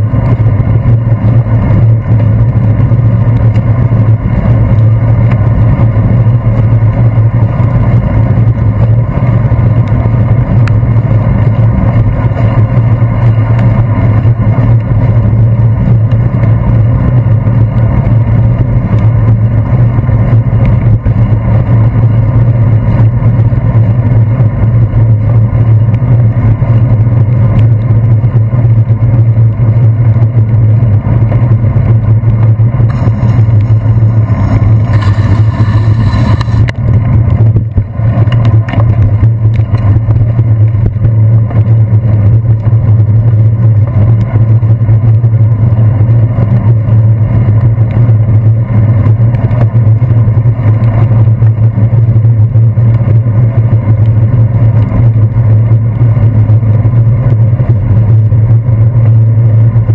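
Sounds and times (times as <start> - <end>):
deep hum: 0.0 - 59.9
wind and road rumble: 0.0 - 59.9.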